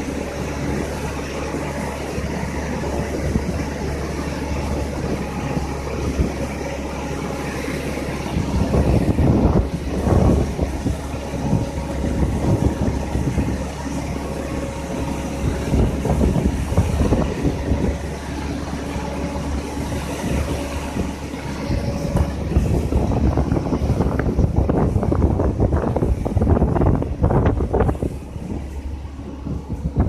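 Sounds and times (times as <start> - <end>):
excavator diesel engine rumbling: 0.0 - 30.0
steady whine: 0.0 - 30.0.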